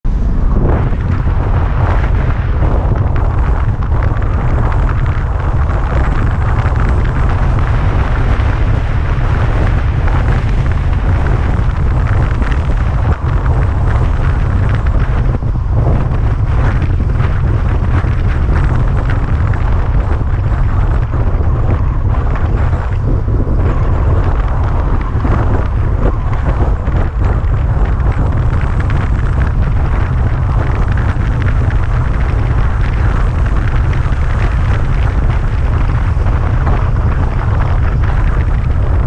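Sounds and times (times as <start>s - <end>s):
car road noise: 0.0s - 39.0s
wind buffeting microphone: 0.0s - 39.0s.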